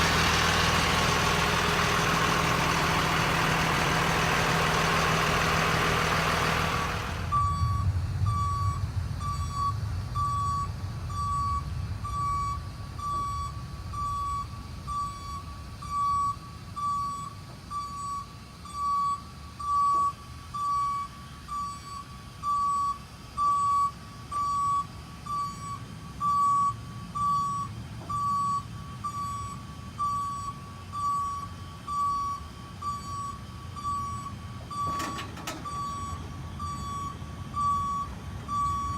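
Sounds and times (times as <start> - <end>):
truck engine running: 0.0 - 38.9
truck warning alarm beeping: 0.0 - 38.9.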